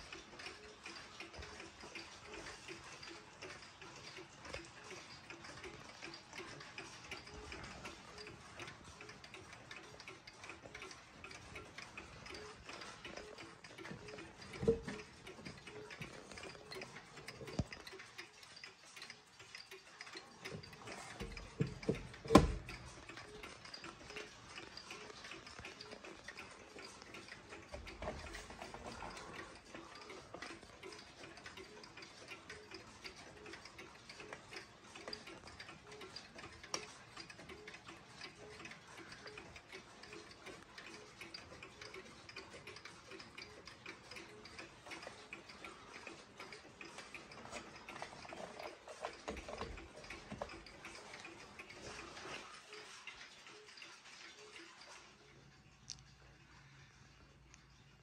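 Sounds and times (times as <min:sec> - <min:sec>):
clock pendulum ticking: 0:00.0 - 0:58.0.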